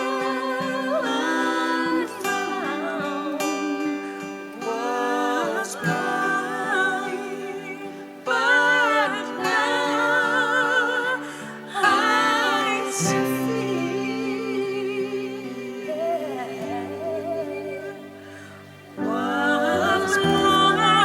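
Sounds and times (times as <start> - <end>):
voices singing with vibrato: 0.0 - 21.0.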